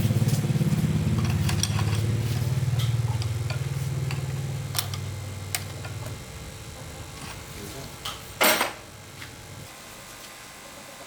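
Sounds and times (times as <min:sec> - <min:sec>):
old engine running: 0:00.0 - 0:09.7.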